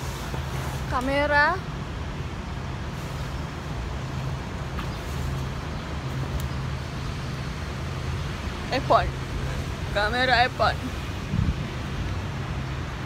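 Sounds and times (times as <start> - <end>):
road traffic hum and rumble: 0.0 - 13.0.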